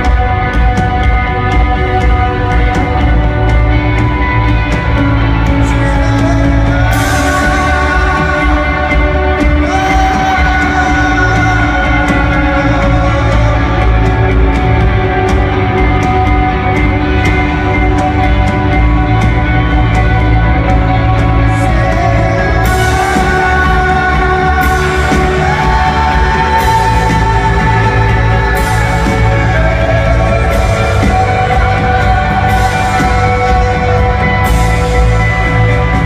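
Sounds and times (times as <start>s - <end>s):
rock band playing live: 0.0s - 36.0s
singer holding long notes: 0.0s - 36.0s.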